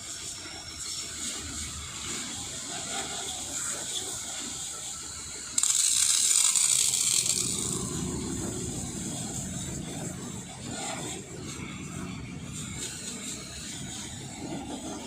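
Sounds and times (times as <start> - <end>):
pressure washer spraying: 0.9 - 14.9.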